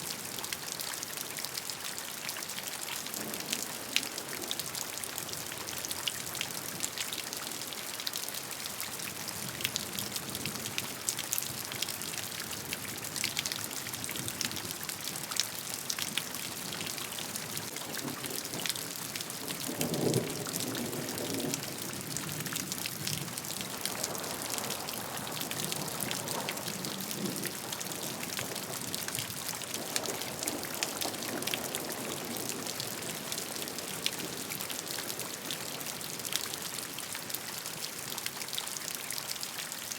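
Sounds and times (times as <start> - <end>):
rain drops ticking on surface: 0.0 - 39.9.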